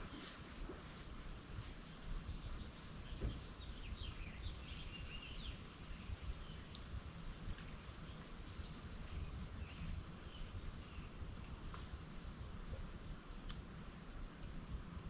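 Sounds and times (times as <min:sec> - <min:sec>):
low rumble of breeze: 0:00.0 - 0:15.0.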